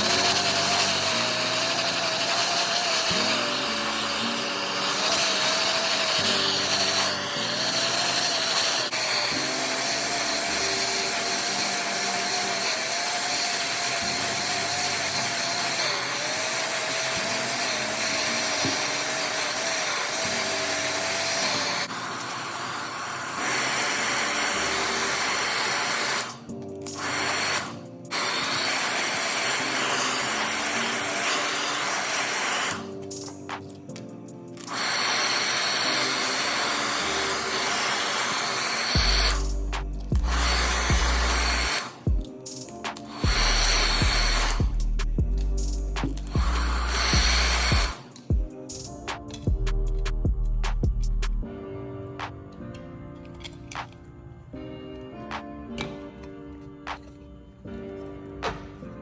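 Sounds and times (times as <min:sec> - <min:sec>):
small power tool whine: 0:00.0 - 0:44.9, 0:46.2 - 0:48.6
background music: 0:00.0 - 0:59.0.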